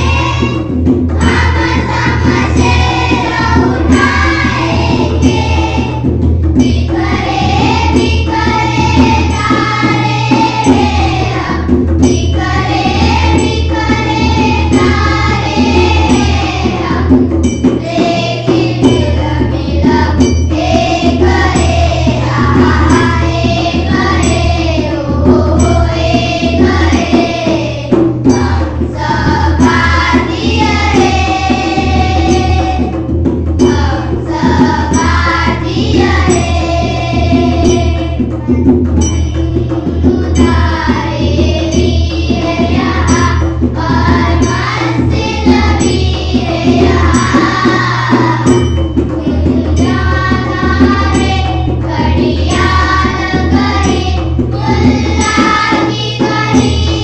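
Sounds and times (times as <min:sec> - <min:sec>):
children singing in unison: 0:00.0 - 0:57.0
tabla drumming: 0:00.0 - 0:57.0.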